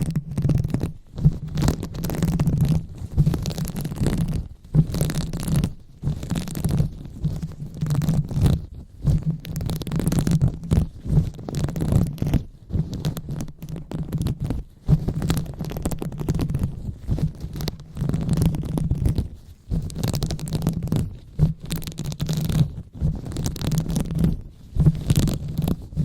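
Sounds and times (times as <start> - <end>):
hands rubbing on microphone: 0.0 - 26.0.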